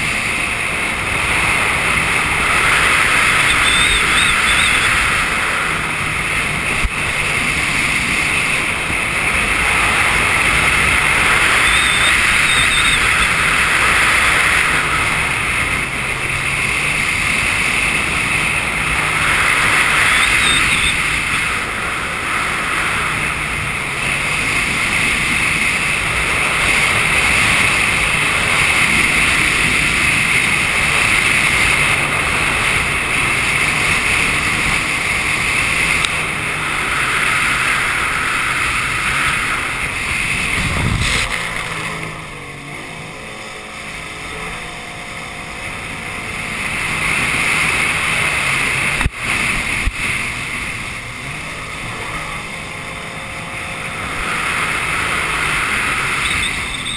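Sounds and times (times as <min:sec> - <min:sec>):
jet ski engine drone: 0:00.0 - 0:56.9
rushing wind: 0:00.0 - 0:56.9.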